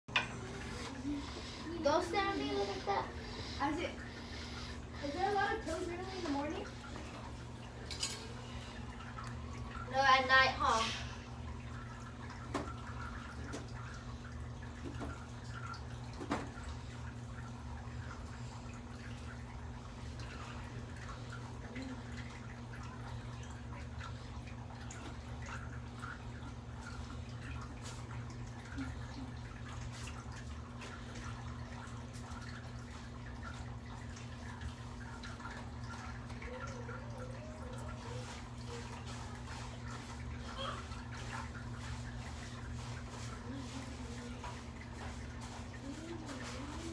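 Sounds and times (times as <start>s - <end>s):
low electrical hum: 0.1s - 46.9s.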